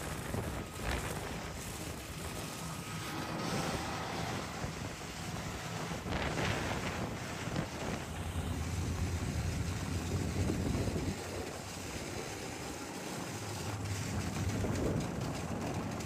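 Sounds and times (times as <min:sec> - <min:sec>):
snowmobile engine hum: 0:00.0 - 0:16.0
whoosh of moving over snow: 0:00.0 - 0:16.0.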